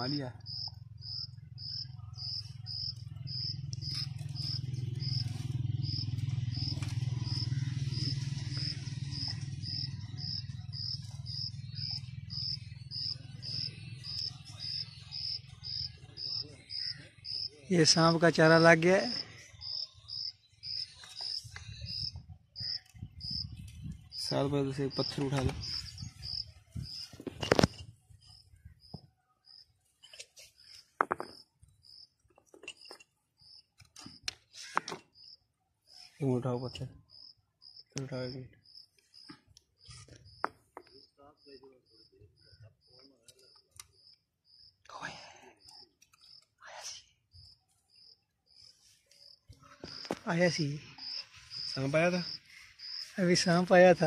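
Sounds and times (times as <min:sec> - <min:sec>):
cricket chirping: 0:00.0 - 0:29.7, 0:30.6 - 0:33.7, 0:35.2 - 0:35.4, 0:36.6 - 0:46.5, 0:47.3 - 0:54.0.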